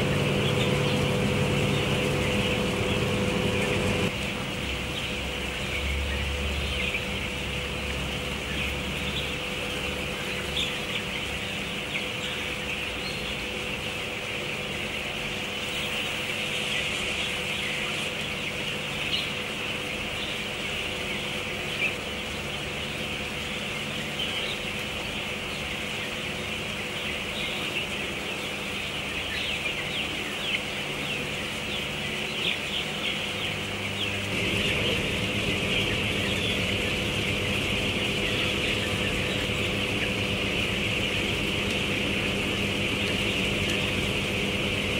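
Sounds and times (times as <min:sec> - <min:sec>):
chicks cheeping: 0:00.0 - 0:44.9
steady hum: 0:00.0 - 0:44.9.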